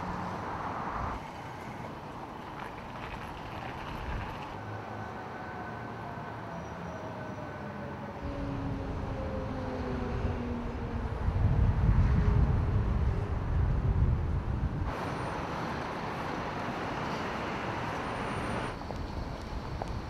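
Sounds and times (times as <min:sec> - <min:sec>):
distant city noise: 0:00.0 - 0:13.9, 0:14.8 - 0:20.0
road traffic rumble: 0:00.0 - 0:20.0.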